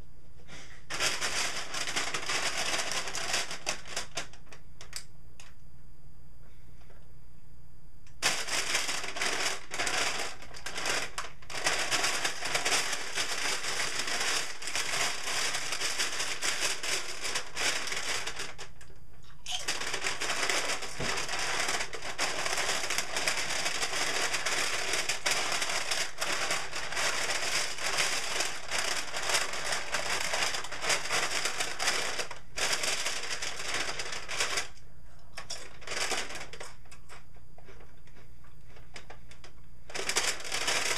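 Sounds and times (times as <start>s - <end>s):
chip bag crinkling: 0.6s - 5.0s, 8.2s - 40.9s.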